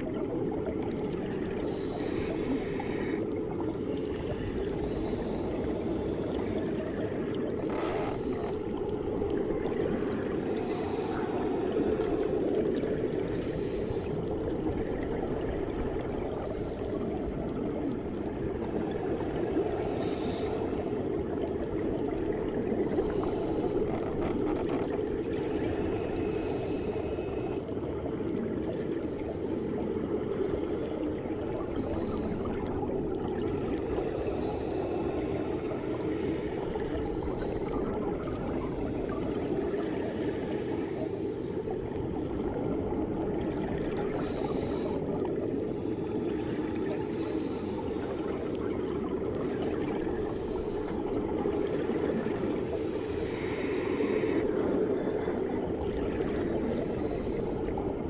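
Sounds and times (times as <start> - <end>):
low underwater rushing: 0.0 - 58.0.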